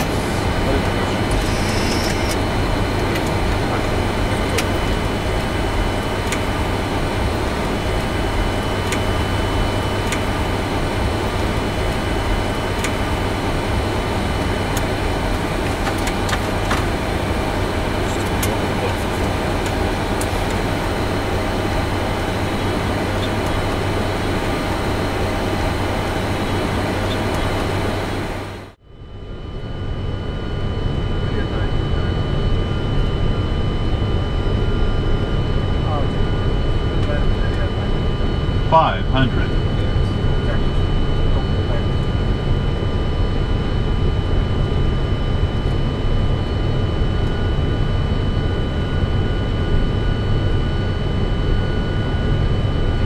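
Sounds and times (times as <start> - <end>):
aircraft engine and airflow rumble: 0.0 - 53.0.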